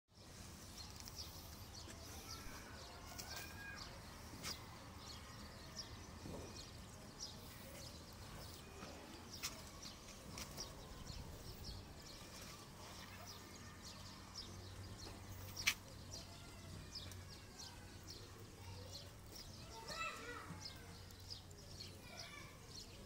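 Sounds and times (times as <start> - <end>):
faint outdoor background noise: 0.1 - 23.0.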